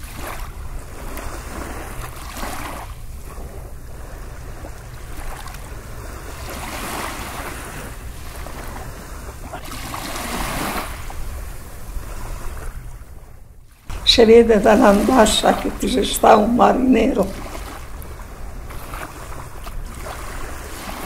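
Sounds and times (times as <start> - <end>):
sea surf washing in: 0.0 - 21.0.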